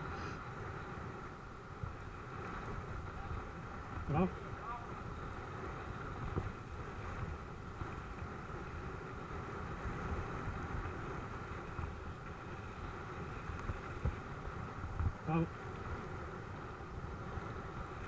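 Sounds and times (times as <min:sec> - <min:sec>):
bike tyres rolling over dirt: 0:00.0 - 0:18.0
wind buffeting microphone: 0:00.0 - 0:18.0.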